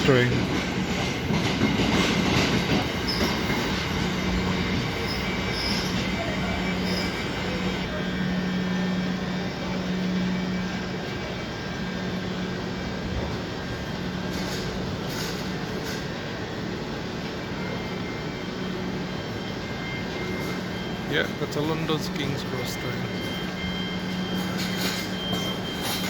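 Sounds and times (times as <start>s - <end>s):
electric train humming: 0.0s - 26.0s.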